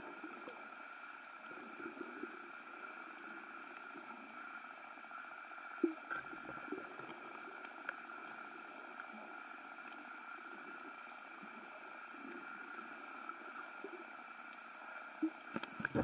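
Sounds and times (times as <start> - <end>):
faint hum: 0.0 - 16.0
low underwater rumble: 0.0 - 16.0
faint clicks: 0.2 - 16.0.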